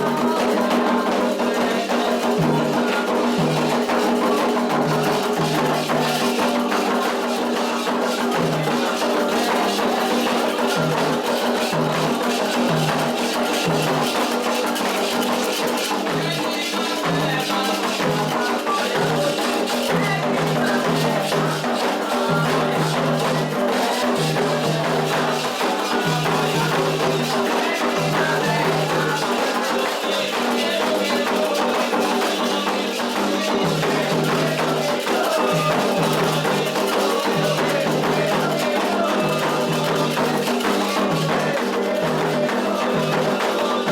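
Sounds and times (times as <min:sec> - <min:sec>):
bell: 0:00.0 - 0:43.9
hand drums: 0:00.0 - 0:43.9
shakers: 0:00.0 - 0:43.9.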